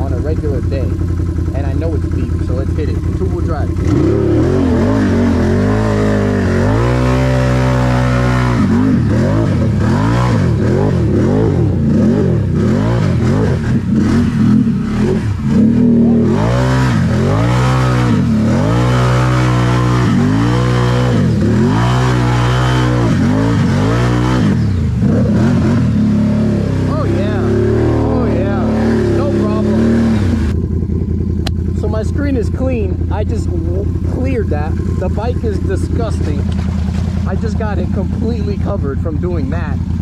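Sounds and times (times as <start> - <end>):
wheels churning through mud: 0.0 - 30.6, 31.7 - 40.0
atv engine revving: 0.0 - 40.0.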